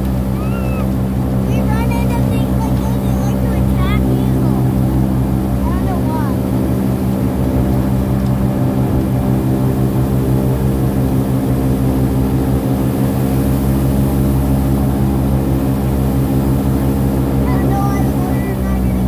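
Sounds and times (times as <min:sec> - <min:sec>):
airboat engine and propeller drone: 0:00.0 - 0:19.0.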